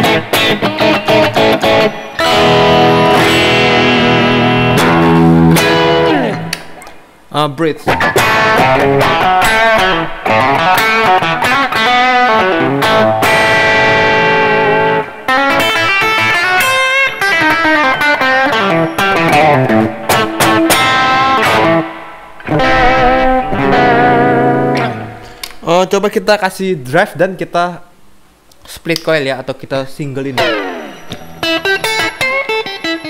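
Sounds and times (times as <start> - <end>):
overdriven electric guitar with reverb: 0.0 - 7.0, 7.9 - 25.6, 30.4 - 33.0.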